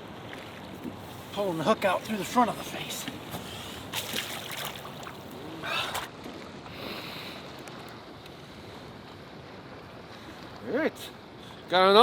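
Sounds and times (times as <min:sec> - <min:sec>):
lake water around a boat: 0:00.0 - 0:12.0
wind: 0:00.0 - 0:12.0.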